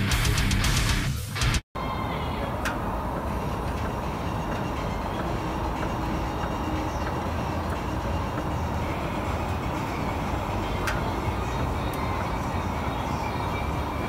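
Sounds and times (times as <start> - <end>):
road and tyre rumble: 1.8 - 14.0.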